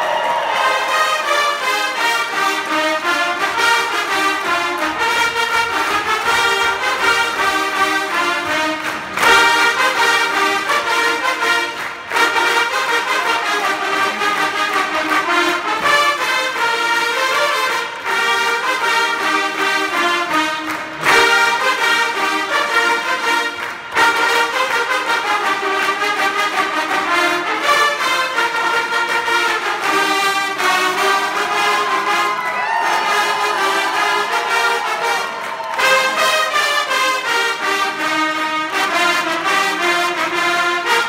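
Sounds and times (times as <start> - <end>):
trumpet ensemble playing: 0.0 - 41.0.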